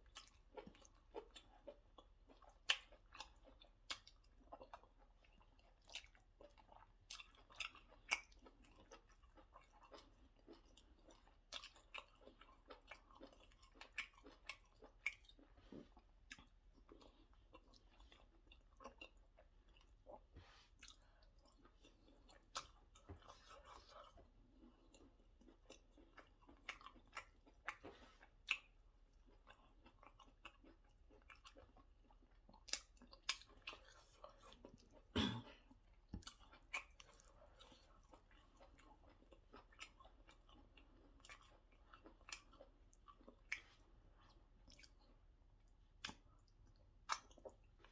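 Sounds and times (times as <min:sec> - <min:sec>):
person chewing and smacking: 0:00.0 - 0:47.9.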